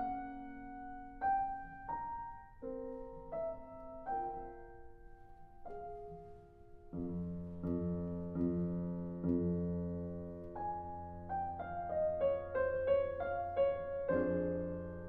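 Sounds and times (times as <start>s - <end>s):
slow soft solo piano: 0.0s - 15.0s.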